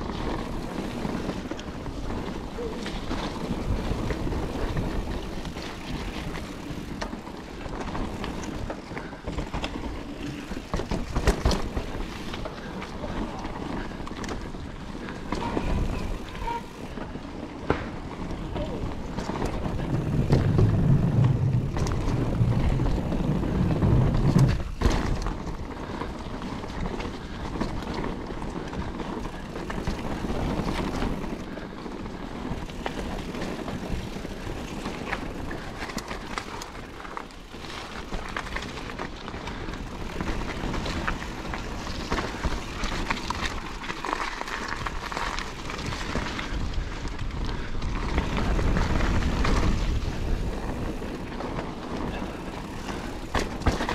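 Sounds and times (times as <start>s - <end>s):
bike clicks and rattles: 0.0s - 53.9s
bike tyres rolling: 0.0s - 53.9s
tyres rumbling over wooden boardwalk: 0.0s - 53.9s.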